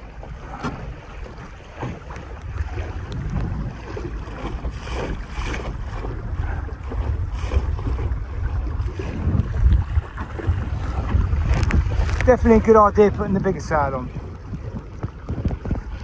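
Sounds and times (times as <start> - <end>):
water rushing along hull: 0.0 - 16.0
wind buffeting microphone: 0.0 - 16.0.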